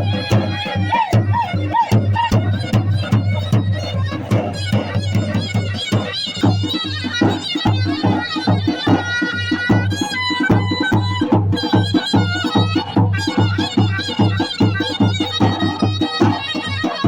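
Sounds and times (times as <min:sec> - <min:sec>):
large drum beating: 0:00.0 - 0:17.0
shrill reedy wind instrument: 0:00.0 - 0:17.0.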